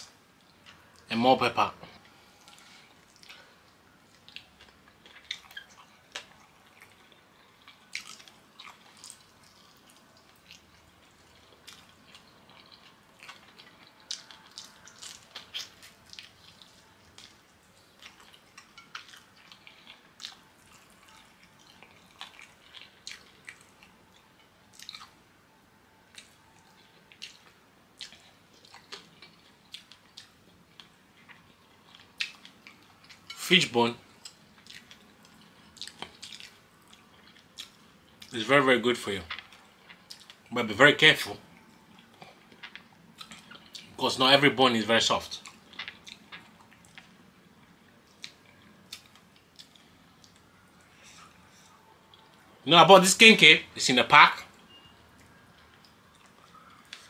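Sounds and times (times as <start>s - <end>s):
person chewing: 2.0s - 25.2s, 26.1s - 33.4s, 34.1s - 38.3s, 39.2s - 40.5s, 41.5s - 43.9s, 45.4s - 52.5s, 54.7s - 57.0s.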